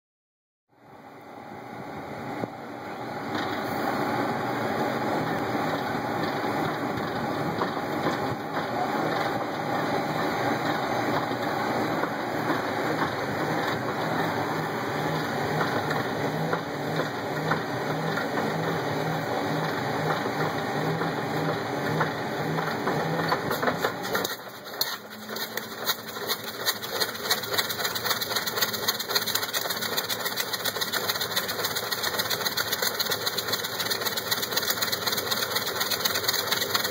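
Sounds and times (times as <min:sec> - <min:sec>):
radial aircraft engine running: 0:01.0 - 0:36.9.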